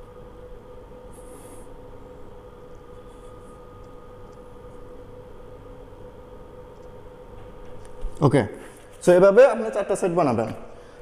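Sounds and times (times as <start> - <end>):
steady hum with held tones: 0.0 - 11.0.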